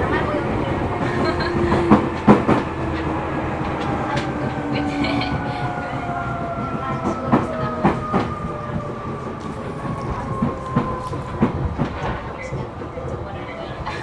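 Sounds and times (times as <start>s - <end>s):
wheel and rail rumble: 0.0s - 14.0s
train motor whine: 0.8s - 14.0s.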